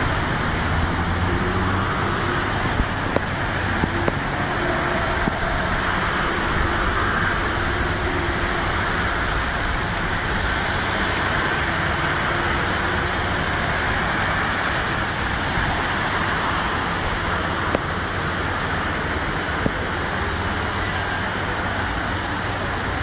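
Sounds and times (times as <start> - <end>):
car engines running: 0.0 - 23.0
wheels pushing through floodwater: 0.0 - 23.0.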